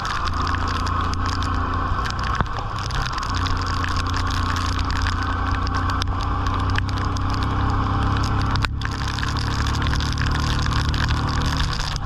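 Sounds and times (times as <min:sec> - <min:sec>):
motorcycle engine running: 0:00.0 - 0:12.0
rain: 0:00.0 - 0:12.0
wind: 0:00.0 - 0:12.0.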